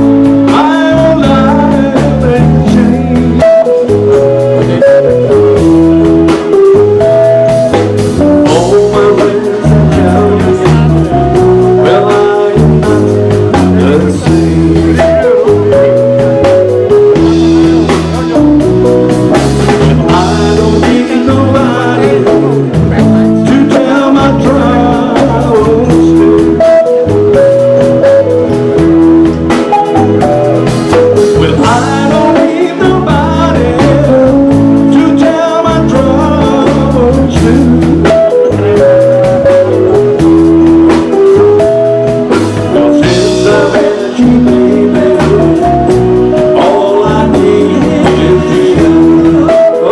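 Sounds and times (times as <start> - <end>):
band playing a song: 0.0 - 49.9
person singing: 0.0 - 49.9.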